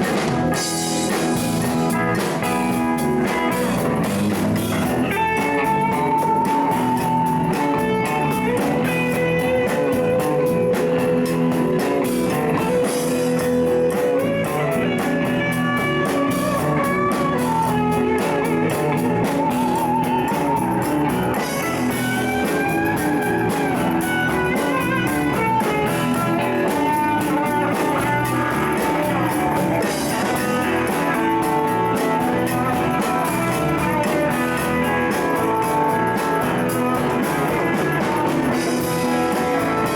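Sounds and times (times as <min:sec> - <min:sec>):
lead guitar bent notes: 0:00.0 - 0:39.9
live blues-rock band: 0:00.0 - 0:39.9
steady drum beat: 0:00.0 - 0:39.9.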